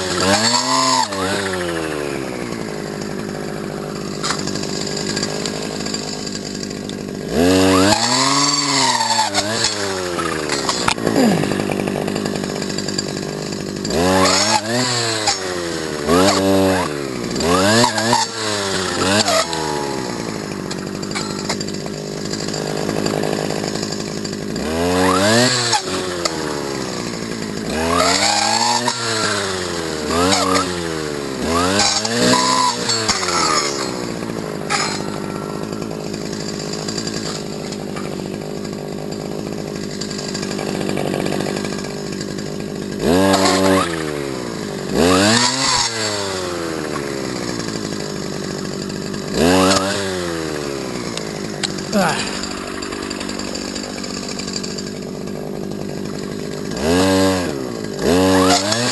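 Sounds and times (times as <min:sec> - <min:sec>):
brush cutter engine revving: 0:00.0 - 0:58.9.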